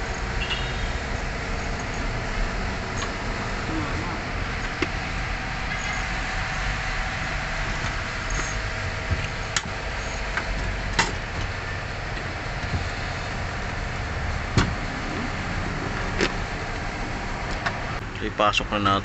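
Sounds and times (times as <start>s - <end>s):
mechanical hum: 0.0s - 18.2s.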